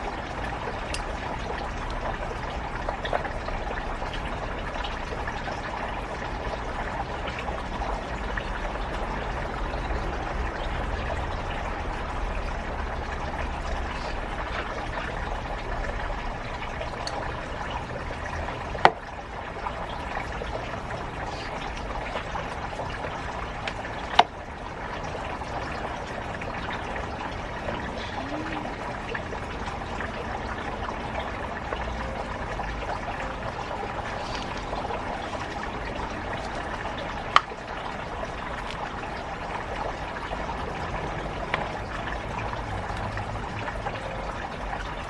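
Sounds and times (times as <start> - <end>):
water trickling: 0.0 - 45.0.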